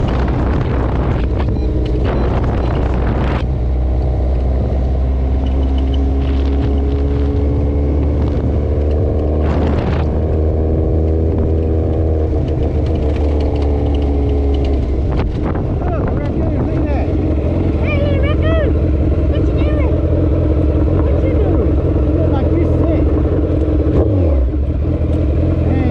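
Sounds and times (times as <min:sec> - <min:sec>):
motorcycle engine running: 0:00.0 - 0:25.9
wind noise: 0:00.0 - 0:25.9.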